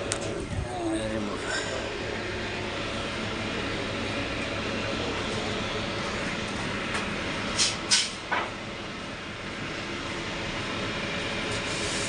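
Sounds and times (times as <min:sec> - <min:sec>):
steady machine noise: 0:00.0 - 0:12.0.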